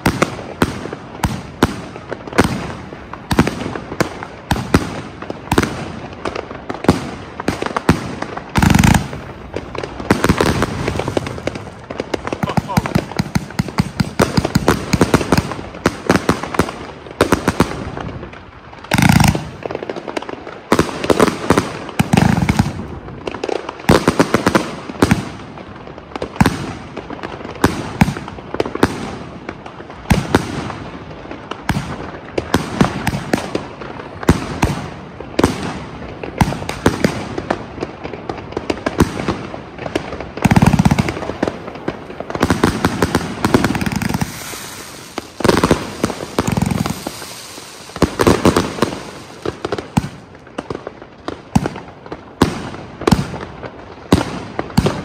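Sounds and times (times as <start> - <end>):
firework booms: 0.0 - 55.0
fireworks cracking: 0.0 - 55.0.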